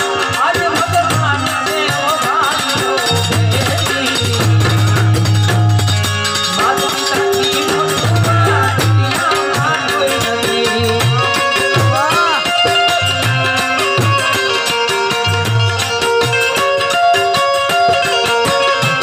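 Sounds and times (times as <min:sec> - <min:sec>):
folk song melody: 0:00.0 - 0:19.0
percussion steady rhythm: 0:00.0 - 0:19.0.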